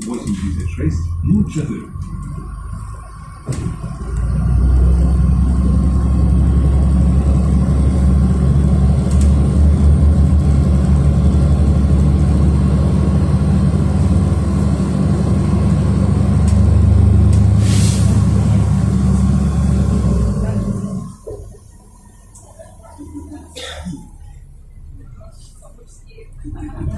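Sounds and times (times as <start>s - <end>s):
bus engine and road drone: 0.0s - 26.9s.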